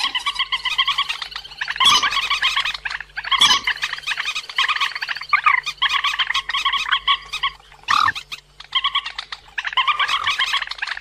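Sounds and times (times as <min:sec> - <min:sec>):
faint steady hum: 0:00.0 - 0:11.0
waterbird chattering calls: 0:00.0 - 0:11.0.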